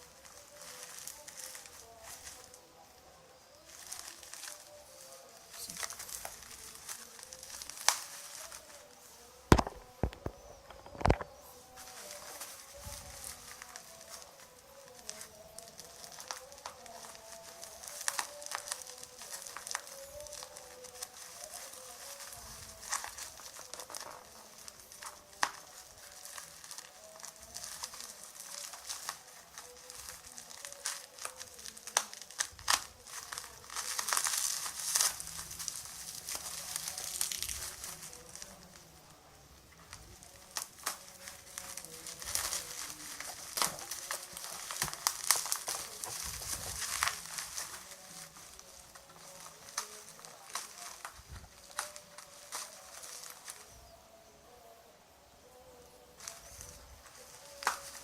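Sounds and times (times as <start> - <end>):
plastic wrap crinkling: 0.0 - 54.6, 55.6 - 58.0.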